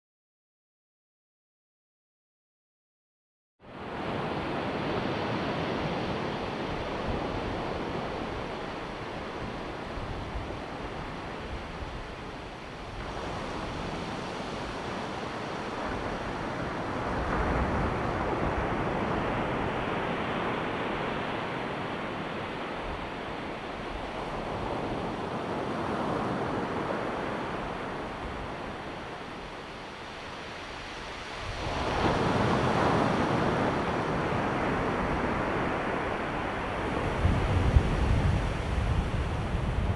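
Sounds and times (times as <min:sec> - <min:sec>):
ocean waves breaking on beach: 0:03.7 - 0:39.9
wind on microphone: 0:03.7 - 0:39.9.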